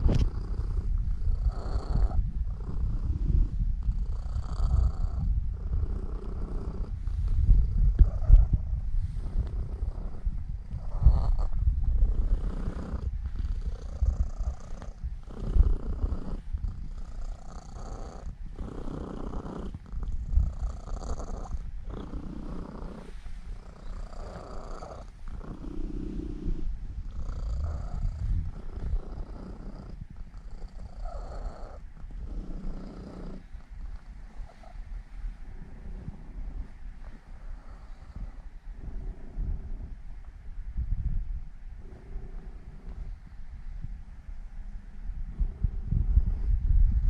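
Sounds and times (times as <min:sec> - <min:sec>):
cat purring: 0:00.0 - 0:40.4, 0:41.7 - 0:43.9.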